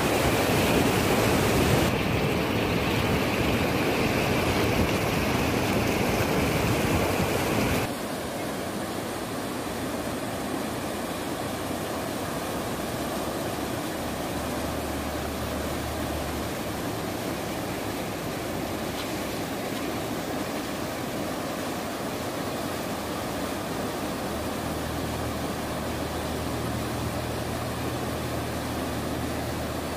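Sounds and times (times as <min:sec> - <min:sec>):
river rushing with rapids: 0:00.0 - 0:29.9.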